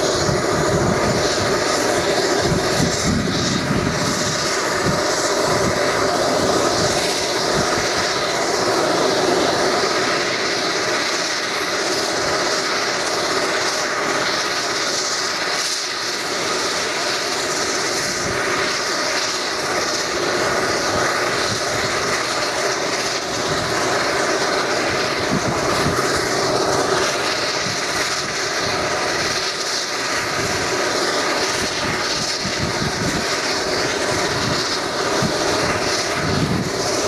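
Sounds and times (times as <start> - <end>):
turboprop engine idling: 0.0 - 37.0.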